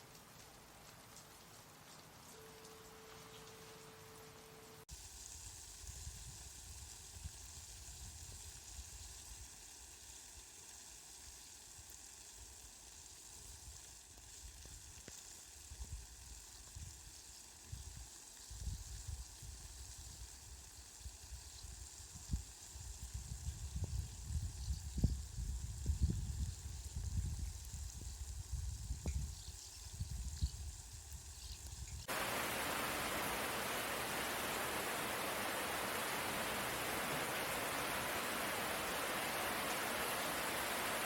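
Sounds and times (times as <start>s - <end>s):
steady rain hiss: 0.0s - 41.0s.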